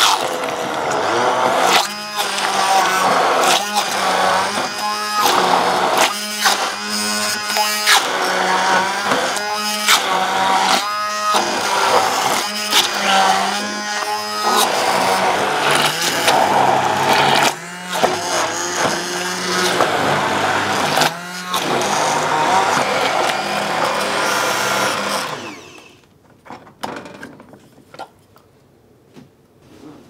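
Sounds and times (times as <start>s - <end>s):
stick blender running: 0.0s - 26.1s.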